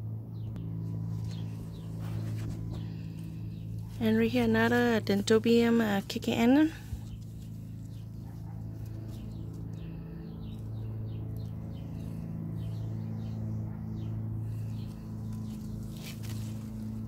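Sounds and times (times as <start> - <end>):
steady low hum: 0.0 - 17.0
small birds chirping: 0.3 - 17.0.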